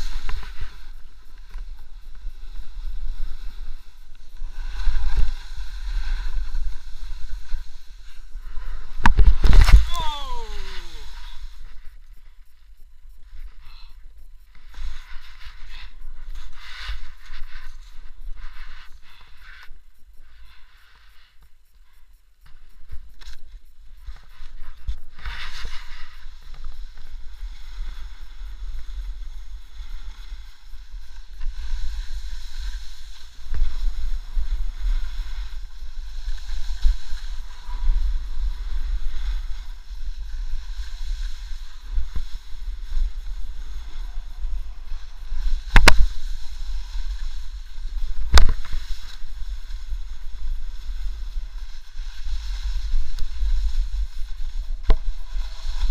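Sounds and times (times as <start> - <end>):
skis scraping over snow: 0.0 - 12.6, 14.6 - 21.4, 24.0 - 55.9.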